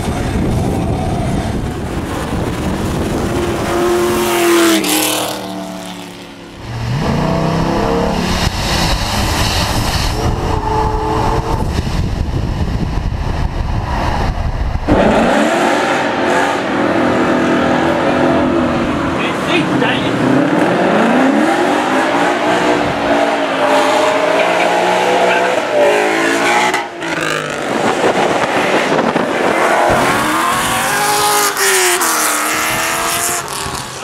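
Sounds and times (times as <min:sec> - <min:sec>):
car engines accelerating hard: 0:00.0 - 0:34.0.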